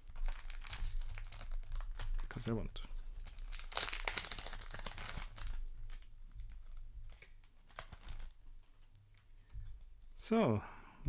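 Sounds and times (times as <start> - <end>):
wrapper crinkling: 0.0 - 9.5.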